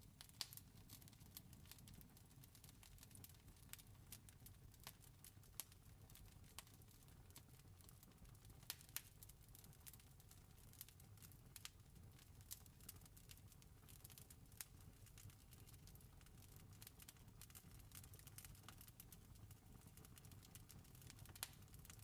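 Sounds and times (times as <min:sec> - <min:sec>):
wood fire popping and snapping: 0:00.0 - 0:22.0.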